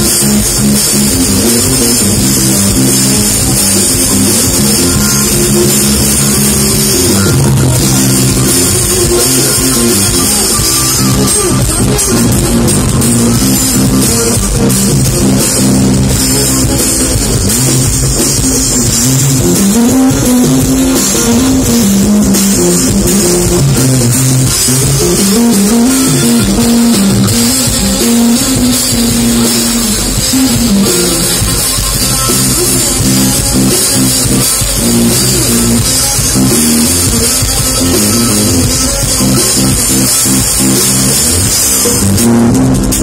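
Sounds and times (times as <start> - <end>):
drum kit: 0.0 - 43.0
electric bass: 0.0 - 43.0
electric guitar: 0.0 - 43.0
hand drums: 0.0 - 43.0
live band music: 0.0 - 43.0.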